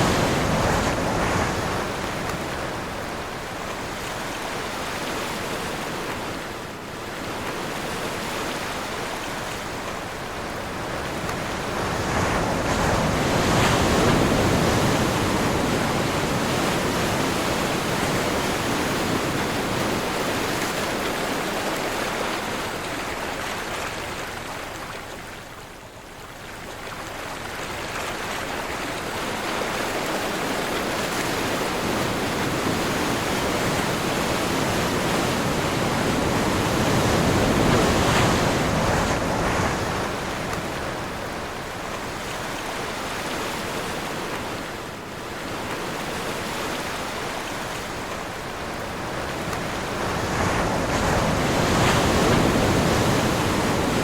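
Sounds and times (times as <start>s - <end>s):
ocean waves surging: 0.0s - 25.0s, 27.6s - 54.0s
wind: 0.0s - 54.0s.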